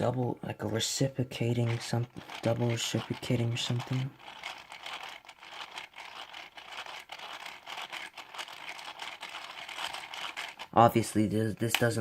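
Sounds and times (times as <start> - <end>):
plastic parts clicking and rattling: 1.4 - 12.0.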